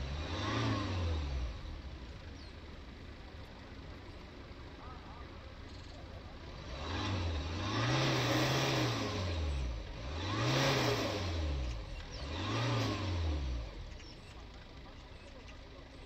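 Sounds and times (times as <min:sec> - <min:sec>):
diesel car engine revving: 0:00.0 - 0:16.0.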